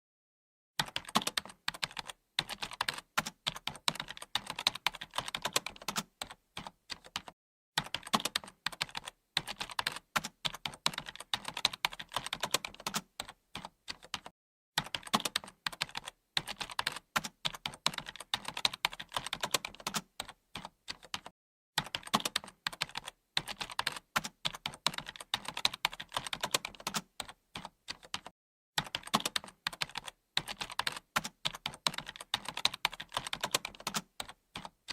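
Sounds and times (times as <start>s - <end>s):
keyboard typing: 0.8s - 34.9s.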